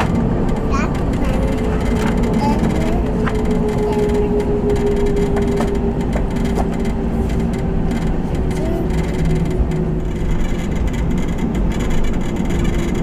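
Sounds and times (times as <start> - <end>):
airframe clicks and knocks: 0.0 - 13.0
jet engines idling rumble: 0.0 - 13.0
steady cabin hum: 0.0 - 13.0.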